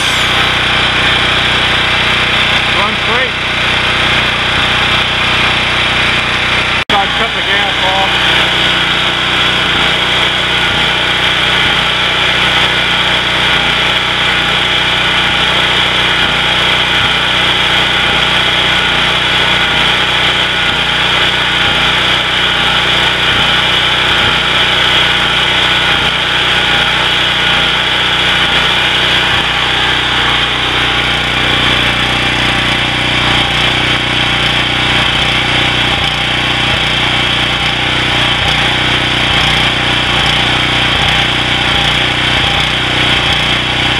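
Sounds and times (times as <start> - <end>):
generator engine running: 0.0 - 43.9.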